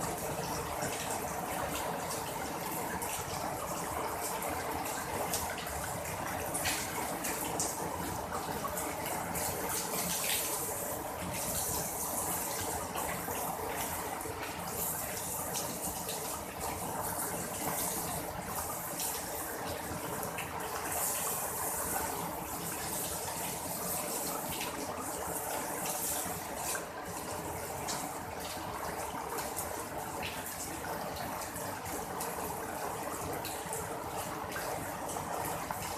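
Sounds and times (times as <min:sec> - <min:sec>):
running water: 0:00.0 - 0:35.9.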